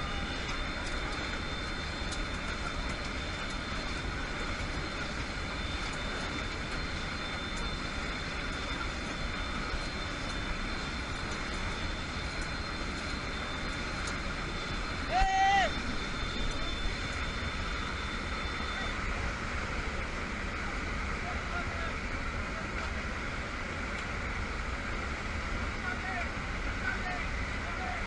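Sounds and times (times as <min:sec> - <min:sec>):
aircraft engines droning: 0:00.0 - 0:28.0
thin high whine: 0:00.0 - 0:28.0.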